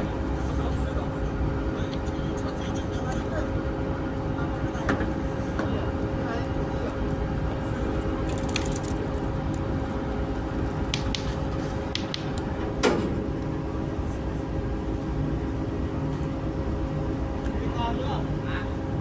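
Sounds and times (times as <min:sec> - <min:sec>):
ship machinery humming: 0:00.0 - 0:19.0.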